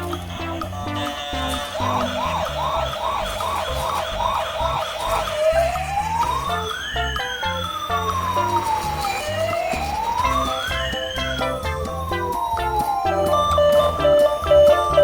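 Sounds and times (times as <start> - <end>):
background music: 0.0 - 15.0
toy siren chirping and wailing: 0.0 - 15.0.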